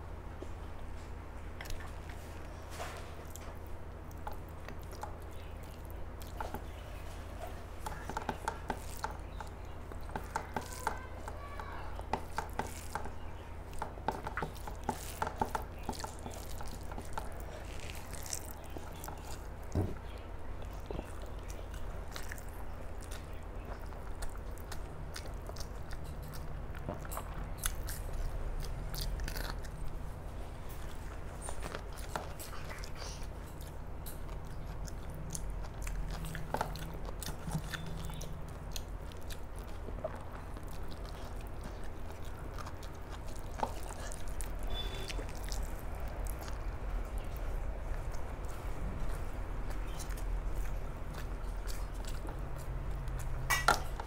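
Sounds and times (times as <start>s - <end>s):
person chewing food: 1.0s - 54.0s.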